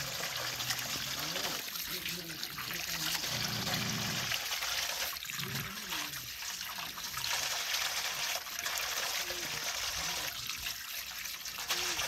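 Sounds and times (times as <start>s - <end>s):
water trickling over stones: 0.0s - 12.0s.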